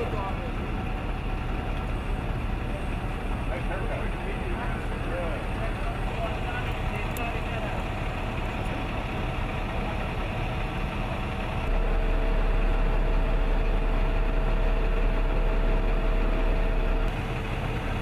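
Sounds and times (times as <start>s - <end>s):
pump steady tone: 0.0s - 18.0s
truck engine idling: 0.0s - 18.0s.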